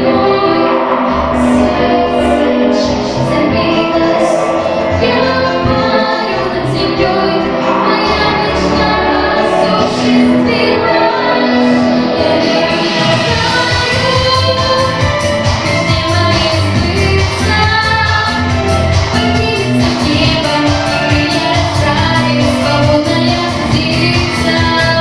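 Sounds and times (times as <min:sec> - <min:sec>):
backing track with steady beat: 0:00.0 - 0:25.0
backing vocals: 0:00.0 - 0:25.0
girl singing a pop song: 0:00.0 - 0:25.0.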